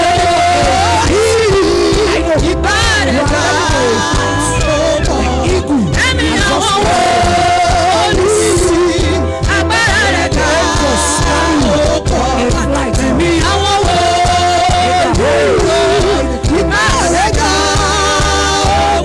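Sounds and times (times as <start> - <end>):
sustained deep bass notes: 0.0 - 19.0
voices singing gospel: 0.0 - 19.0.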